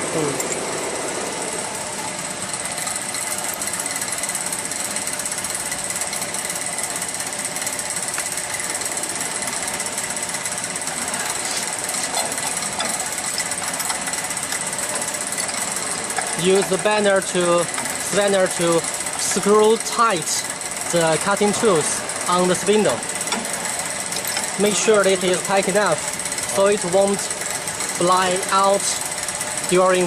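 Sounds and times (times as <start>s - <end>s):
machinery rattling hum: 0.0s - 30.0s.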